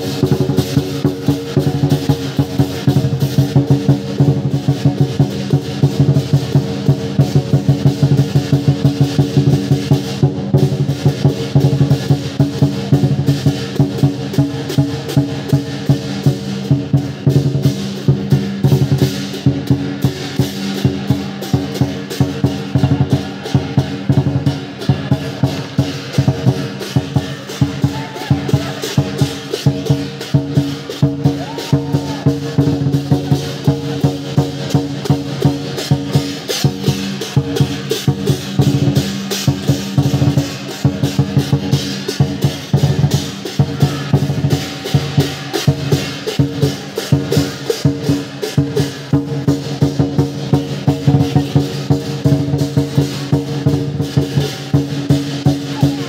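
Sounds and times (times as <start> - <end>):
big drum beating: 0.0 - 56.0
cymbals ringing: 0.0 - 56.0
gong: 0.0 - 56.0.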